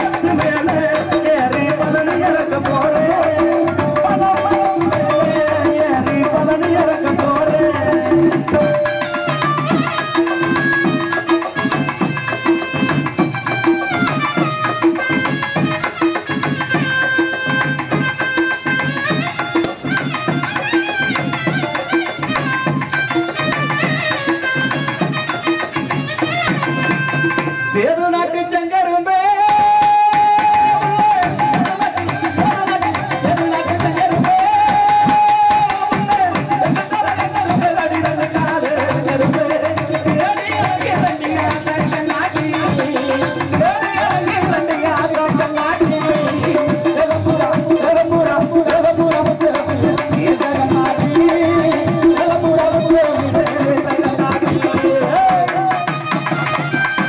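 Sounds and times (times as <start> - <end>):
fast hand drum rhythm: 0.0 - 28.3, 29.3 - 57.0.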